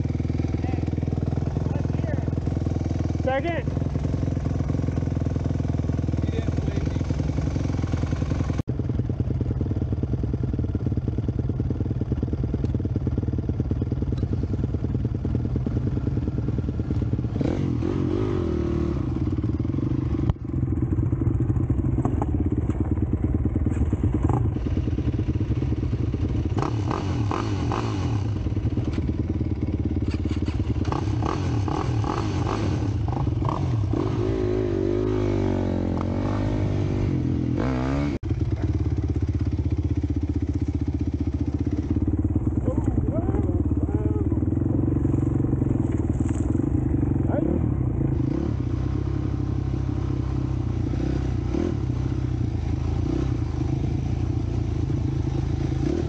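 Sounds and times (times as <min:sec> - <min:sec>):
dirt bike engine running: 0:00.0 - 0:56.0
quad engine: 0:00.0 - 0:56.0.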